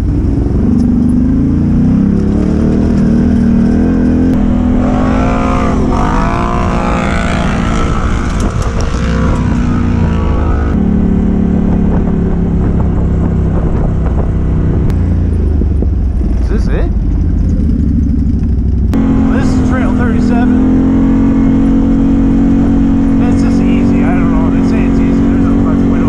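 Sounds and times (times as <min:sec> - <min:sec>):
atv engine accelerating: 0:00.0 - 0:26.0.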